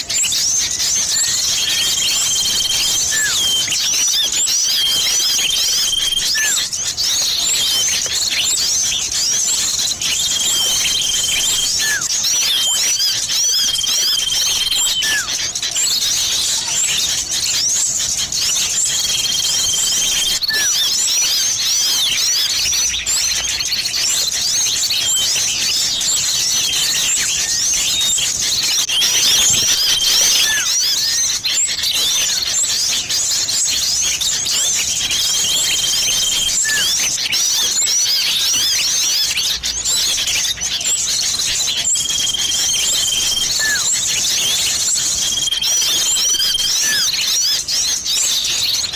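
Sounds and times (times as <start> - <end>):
level bird whistle: 0.0 - 48.9
small birds chattering: 0.0 - 48.9.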